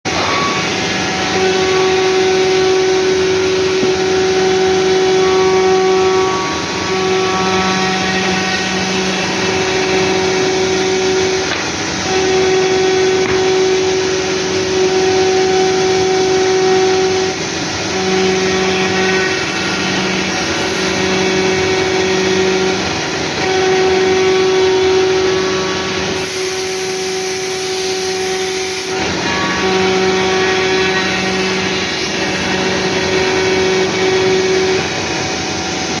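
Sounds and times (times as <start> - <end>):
cnc router machine hiss: 0.1 - 36.0
cnc router whine: 0.1 - 36.0.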